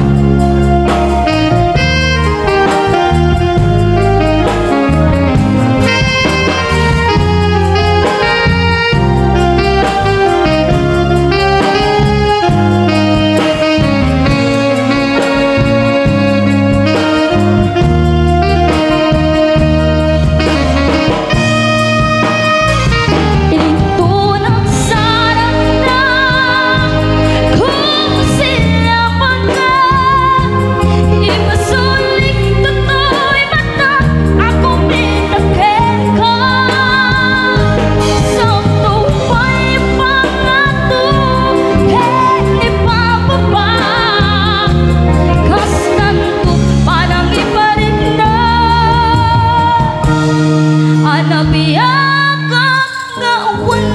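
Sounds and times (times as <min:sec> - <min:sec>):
live band playing: 0:00.0 - 0:53.9
person singing with vibrato: 0:00.0 - 0:53.9.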